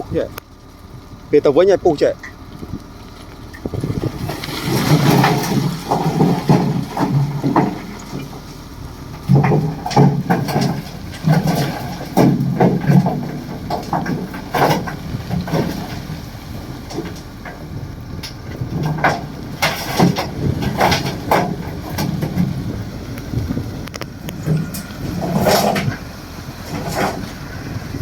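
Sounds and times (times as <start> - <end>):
bulldozer engine drone: 0.0 - 28.0
metallic clanks and knocks: 3.5 - 27.6.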